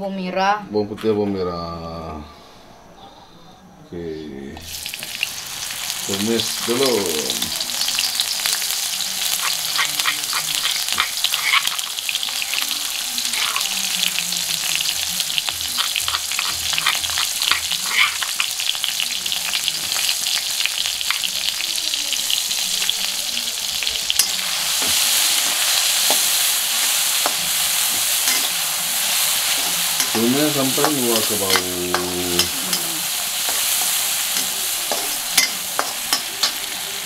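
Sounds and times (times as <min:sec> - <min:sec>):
paste sizzling in hot oil: 0:04.6 - 0:37.0.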